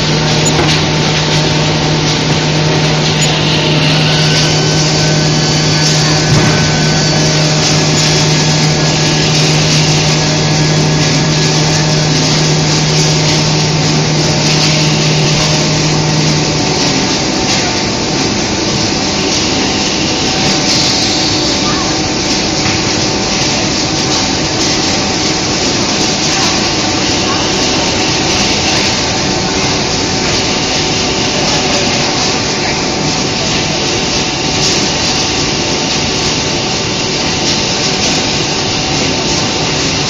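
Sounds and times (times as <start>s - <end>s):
factory machine din: 0.0s - 40.0s
low machine hum: 0.0s - 40.0s.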